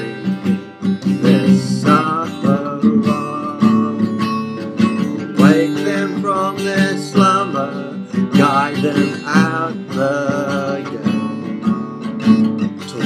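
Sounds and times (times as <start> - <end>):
acoustic guitar strumming: 0.0 - 13.0
man singing: 0.0 - 13.0.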